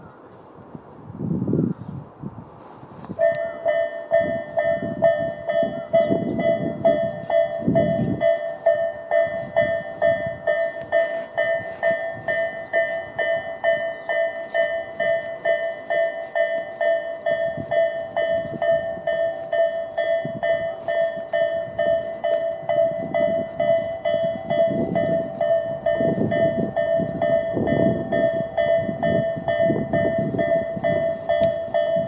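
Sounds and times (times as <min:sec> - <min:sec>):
level crossing warning bells: 0:03.2 - 0:32.0.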